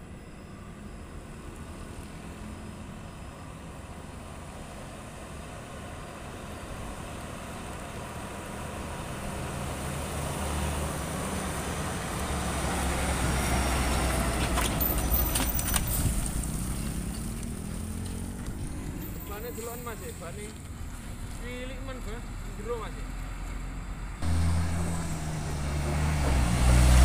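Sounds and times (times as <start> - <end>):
truck engine and tyres passing: 0.0 - 27.0.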